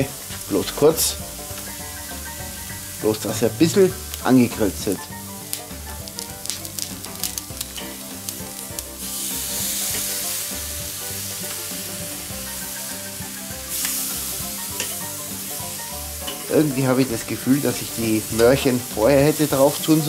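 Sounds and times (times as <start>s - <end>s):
chicken sizzling on a grill: 0.0s - 20.0s.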